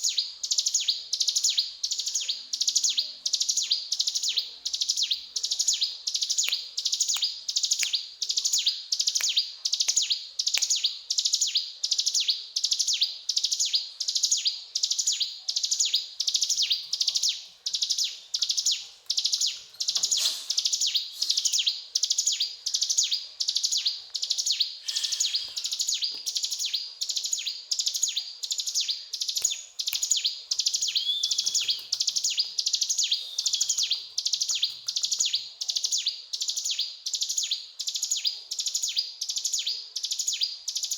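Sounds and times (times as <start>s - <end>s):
songbird chattering song: 0.0s - 40.9s.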